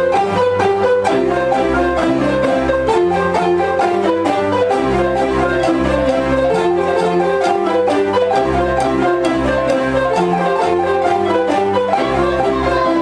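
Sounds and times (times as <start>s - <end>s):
xylophones playing a tune: 0.0s - 13.0s.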